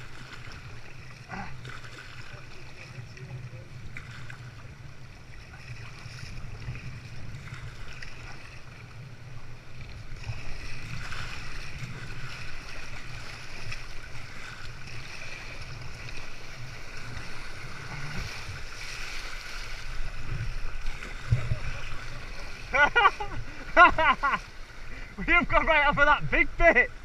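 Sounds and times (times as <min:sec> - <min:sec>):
water splashing around kayak: 0:00.0 - 0:27.0
wind rumbling on microphone: 0:02.1 - 0:25.0.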